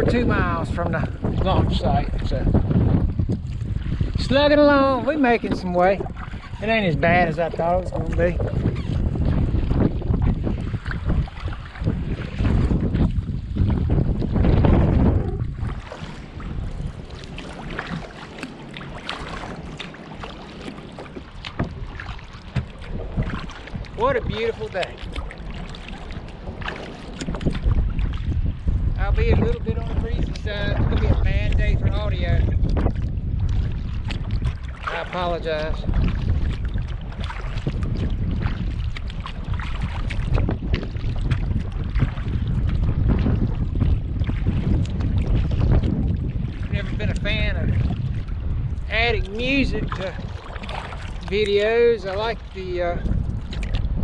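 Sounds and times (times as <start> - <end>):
paddle splashing water: 0.0 - 54.0
wind rumble on microphone: 0.0 - 54.0.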